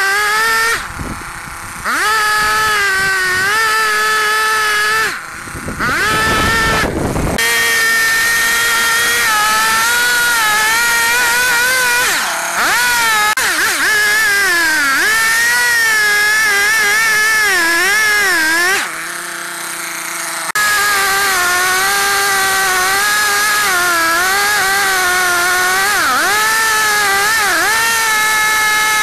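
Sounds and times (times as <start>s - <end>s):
chainsaw cutting log: 0.0s - 29.0s.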